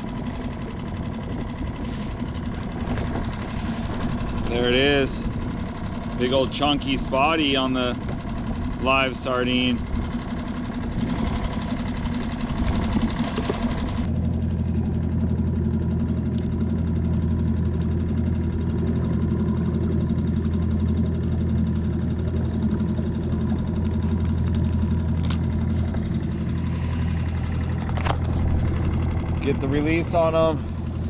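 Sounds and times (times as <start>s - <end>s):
outboard motor humming: 0.0s - 31.0s.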